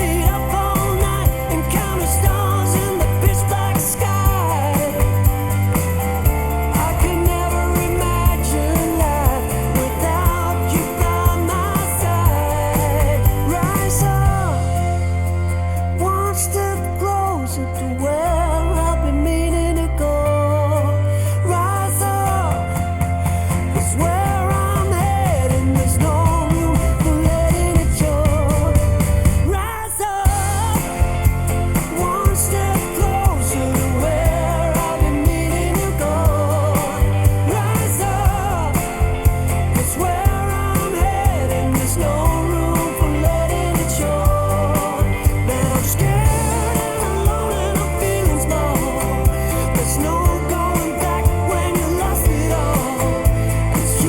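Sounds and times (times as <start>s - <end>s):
pop-rock song with vocals: 0.0s - 54.0s.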